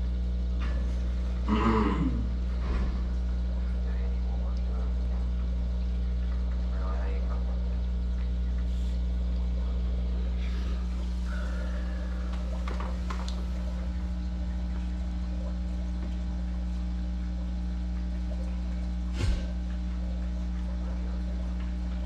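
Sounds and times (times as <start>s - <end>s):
aquarium equipment humming: 0.0s - 22.0s
bubbling trickling water: 0.0s - 22.0s.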